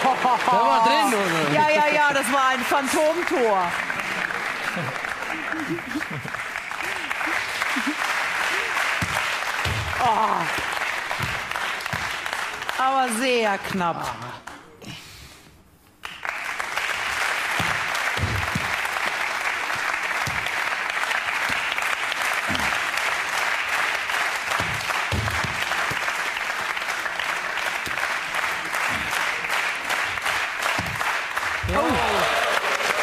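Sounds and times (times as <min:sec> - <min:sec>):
audience applauding: 0:00.0 - 0:13.2, 0:16.0 - 0:33.0.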